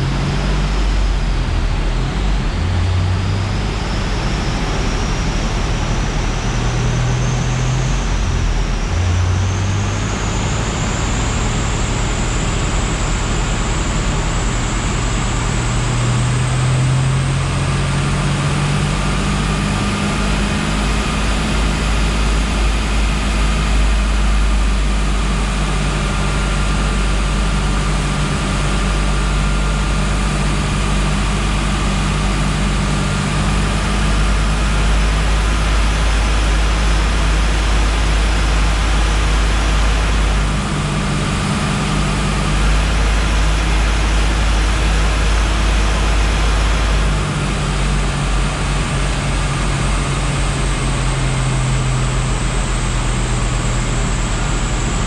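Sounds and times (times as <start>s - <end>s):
engine running on a dyno: 0.0s - 55.0s
high whine: 0.0s - 55.0s.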